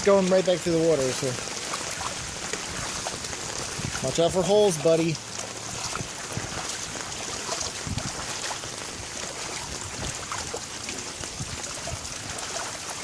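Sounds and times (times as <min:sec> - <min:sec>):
rain and water wash: 0:00.0 - 0:13.0
small splashes and drips: 0:00.0 - 0:13.0.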